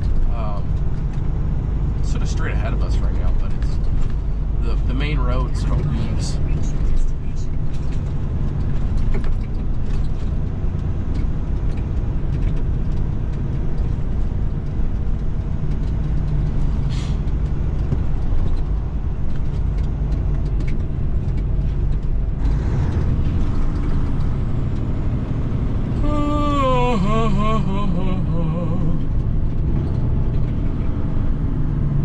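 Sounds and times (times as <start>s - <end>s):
diesel truck engine drone: 0.0s - 32.0s
road noise: 0.0s - 32.0s.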